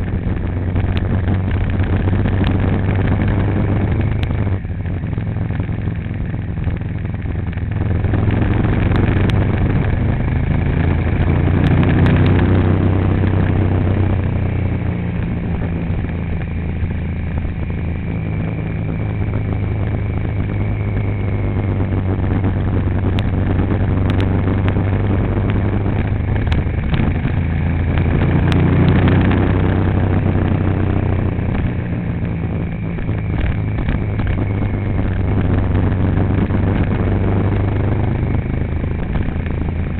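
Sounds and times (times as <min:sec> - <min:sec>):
road noise: 0:00.0 - 0:39.9
vehicle engine accelerating: 0:00.0 - 0:39.9.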